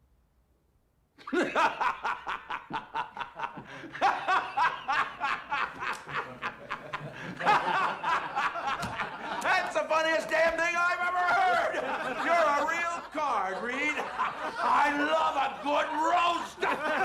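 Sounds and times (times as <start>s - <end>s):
man laughing heartily: 1.2s - 9.7s, 11.2s - 17.0s.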